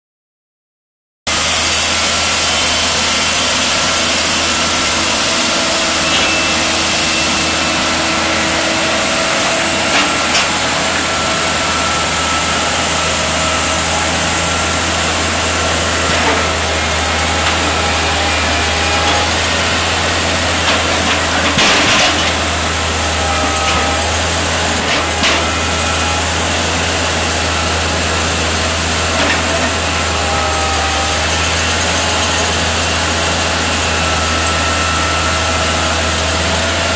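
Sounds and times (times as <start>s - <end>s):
crane diesel engine humming: 1.3s - 36.9s.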